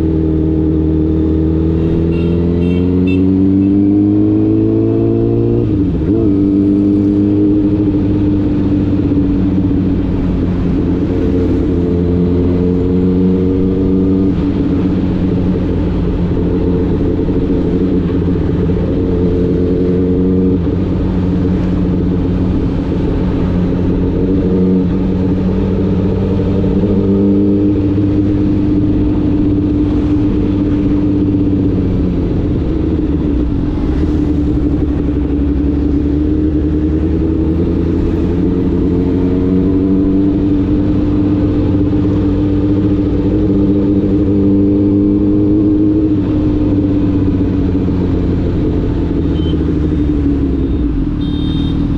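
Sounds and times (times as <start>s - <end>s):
wind and road noise: 0.0s - 51.9s
motorcycle engine running: 0.8s - 51.9s.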